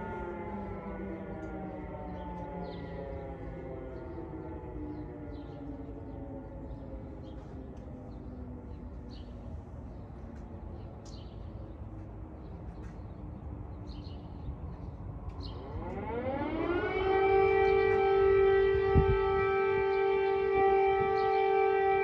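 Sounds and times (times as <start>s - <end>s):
air-raid siren wailing: 0.0s - 22.0s.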